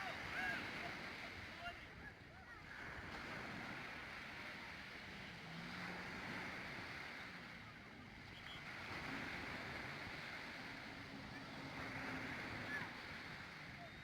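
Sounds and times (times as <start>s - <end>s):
faint sea surf: 0.0s - 14.0s
low steady motor hum: 0.0s - 14.0s.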